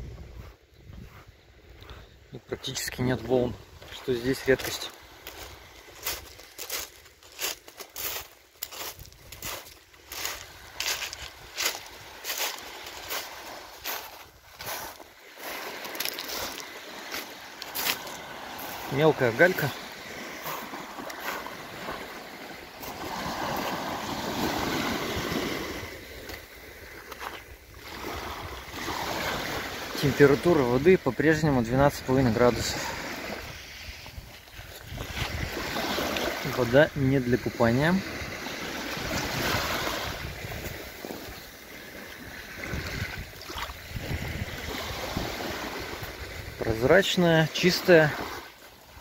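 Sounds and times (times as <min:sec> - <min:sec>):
waves washing on pebble shore: 0:03.8 - 0:49.0.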